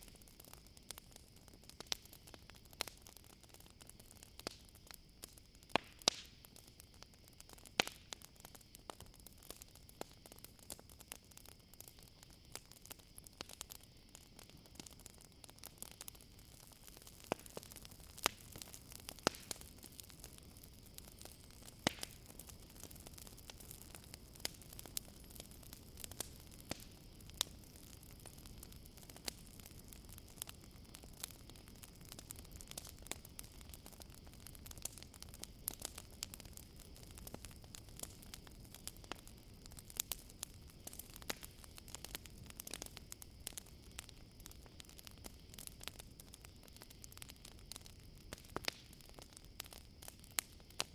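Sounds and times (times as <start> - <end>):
campfire crackling and popping: 0.0 - 50.9
crickets chirring: 0.0 - 50.9.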